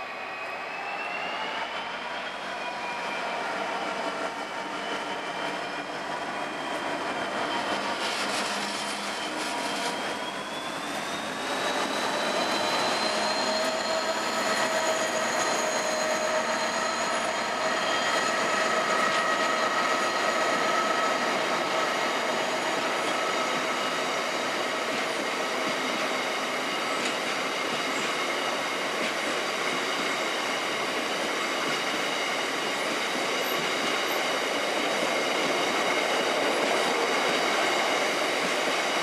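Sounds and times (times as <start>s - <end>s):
diesel locomotive engine: 0.0s - 39.0s
train wheels clattering on rails: 3.8s - 39.0s.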